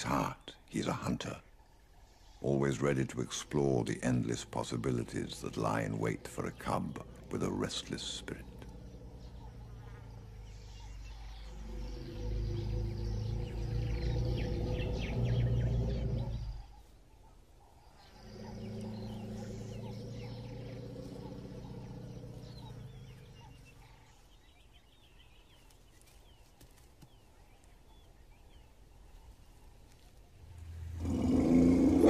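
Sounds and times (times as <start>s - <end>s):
faint bird chirps: 0.0s - 32.0s.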